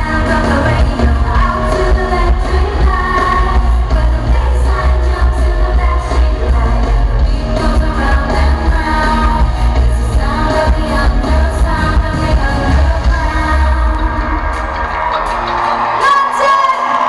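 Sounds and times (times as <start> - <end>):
woman singing: 0.0 - 14.6
live pop band with heavy bass: 0.0 - 17.0.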